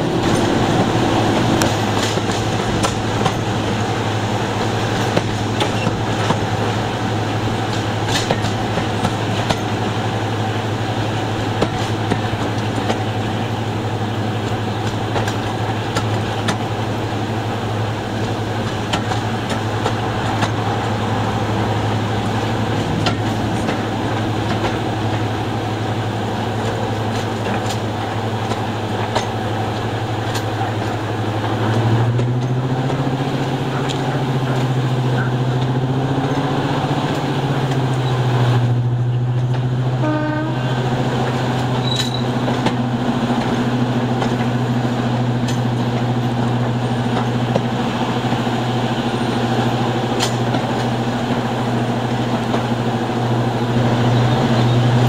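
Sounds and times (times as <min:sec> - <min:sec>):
wheels clicking over rail joints: 0:00.0 - 0:39.9, 0:40.9 - 0:55.0
locomotive engine drone: 0:00.0 - 0:55.0.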